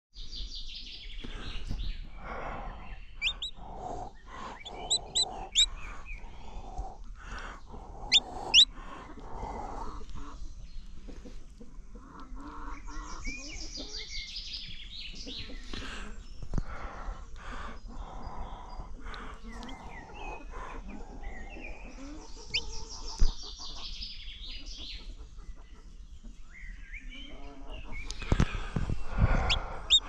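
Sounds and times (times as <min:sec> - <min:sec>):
chicks peeping: 0:00.5 - 0:30.0.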